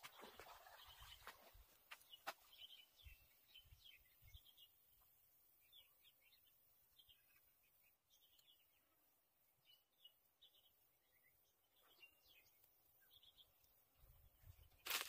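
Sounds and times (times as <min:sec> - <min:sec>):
faint small birds chirping: 0:00.0 - 0:15.0.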